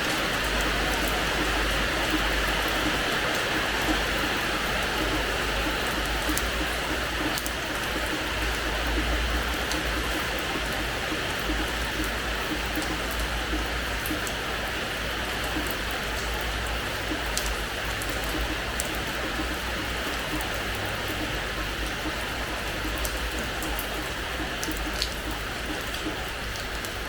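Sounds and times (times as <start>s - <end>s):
rain falling on a floor: 0.0s - 27.0s.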